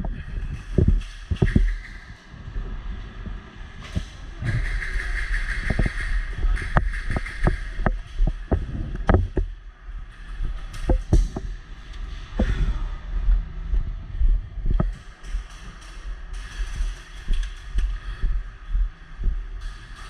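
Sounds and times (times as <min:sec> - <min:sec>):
wind and handling noise: 0:00.0 - 0:20.0.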